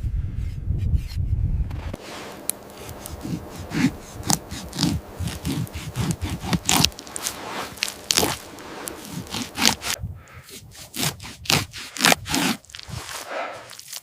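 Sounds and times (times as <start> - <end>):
crunching sounds: 1.7 - 14.0.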